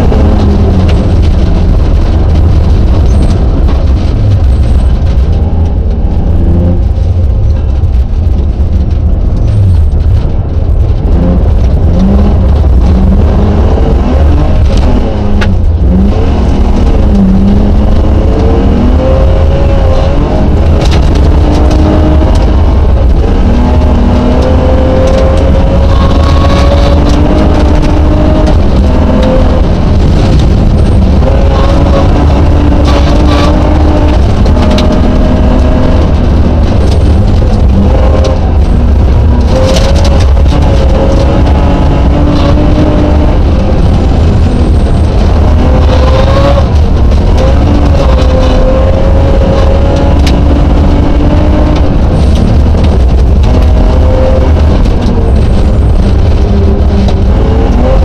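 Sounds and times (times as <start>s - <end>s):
rally car engine revving: 0.0s - 58.0s
tyres rumbling on snowy road: 0.0s - 58.0s.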